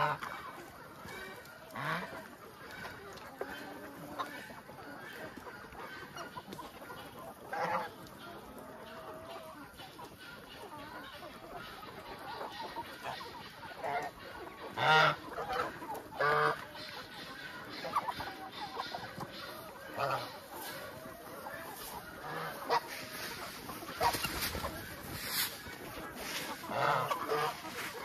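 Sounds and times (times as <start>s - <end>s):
chickens clucking: 0.0s - 28.0s
geese honking: 0.0s - 28.0s.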